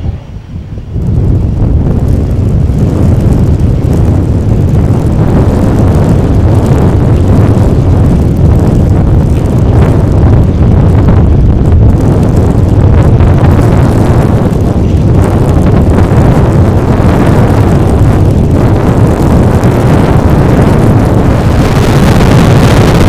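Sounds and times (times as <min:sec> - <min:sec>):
turboprop engine running: 0:00.0 - 0:23.0
wind buffeting microphone: 0:00.0 - 0:23.0.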